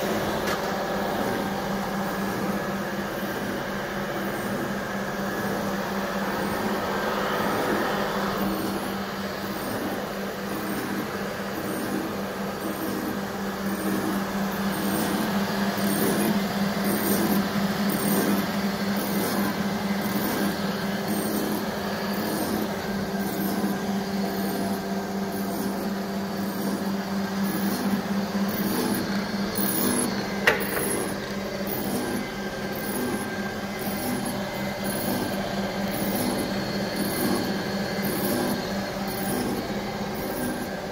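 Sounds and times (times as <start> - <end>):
grinding machine motor hum: 0.0 - 40.9
regular mechanical pulsing: 0.0 - 40.9.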